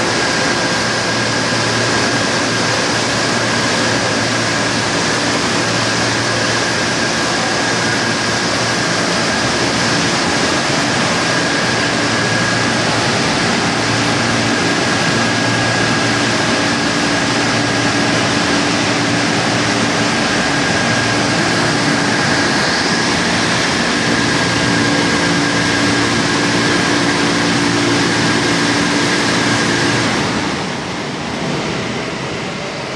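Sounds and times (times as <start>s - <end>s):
car wash rushing noise: 0.0s - 32.9s
high-pitched whine: 0.0s - 32.9s
low motor hum: 0.0s - 32.9s.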